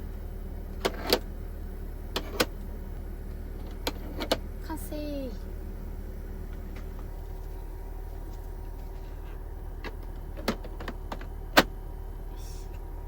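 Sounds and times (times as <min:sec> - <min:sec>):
faint whine: 0:00.0 - 0:13.0
low mechanical hum: 0:00.0 - 0:13.0.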